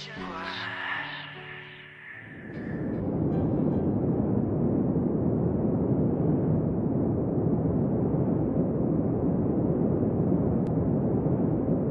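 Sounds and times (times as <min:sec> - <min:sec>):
muffled rumbling: 0:00.0 - 0:11.9.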